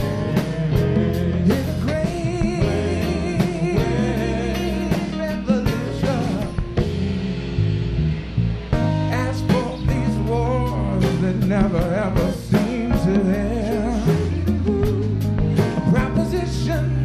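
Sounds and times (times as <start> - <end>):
wordless vocal with vibrato: 0.0 - 8.1, 9.0 - 17.0
soul band playing: 0.0 - 17.0.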